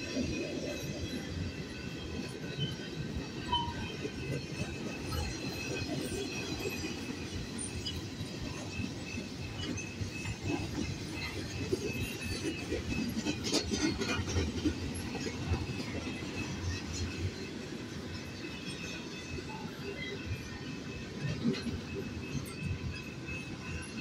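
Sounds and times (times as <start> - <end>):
train clatter: 0.0 - 24.0
train wheels rumbling on rails: 0.0 - 24.0
faint high wheel squeal: 0.2 - 24.0.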